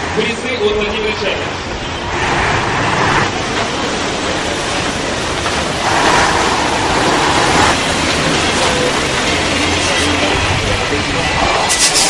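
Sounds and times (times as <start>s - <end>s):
truck diesel engine passing: 0.0s - 12.0s.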